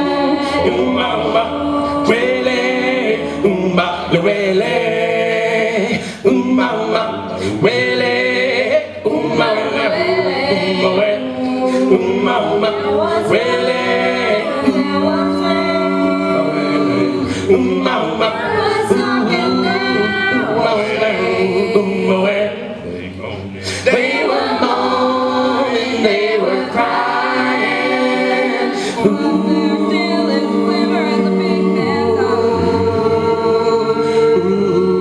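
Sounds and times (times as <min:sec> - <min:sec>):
choir singing a cappella: 0:00.0 - 0:35.0.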